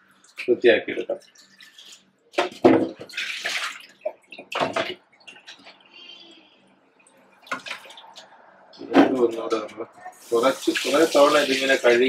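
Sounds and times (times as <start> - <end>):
water splashing in a steel sink: 0.0 - 5.8, 7.0 - 12.0.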